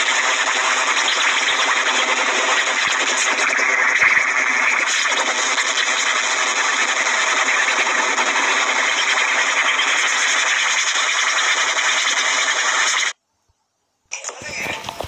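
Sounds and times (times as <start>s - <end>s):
loud steady hissing static: 0.0s - 13.2s, 14.2s - 15.0s.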